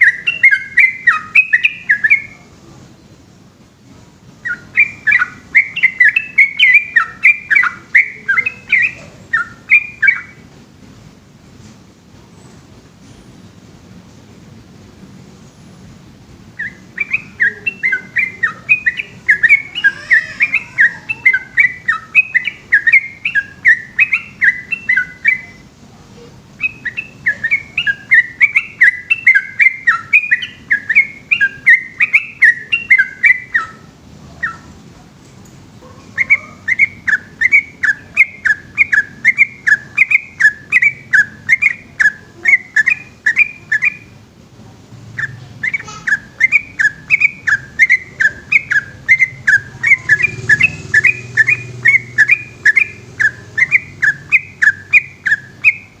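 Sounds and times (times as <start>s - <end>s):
bird singing whistled notes: 0.0s - 2.5s, 4.4s - 10.4s, 16.6s - 25.7s, 26.6s - 34.7s, 35.8s - 44.2s, 45.1s - 56.0s.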